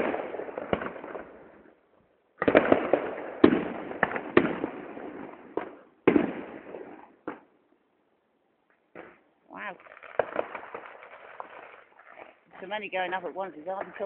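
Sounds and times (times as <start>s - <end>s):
fireworks bangs: 0.0s - 1.7s, 2.4s - 7.5s, 8.9s - 14.0s.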